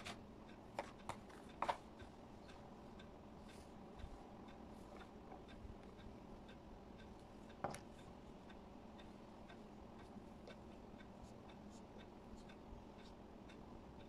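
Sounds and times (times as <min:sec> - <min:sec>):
faint even ticking: 0:00.0 - 0:14.0.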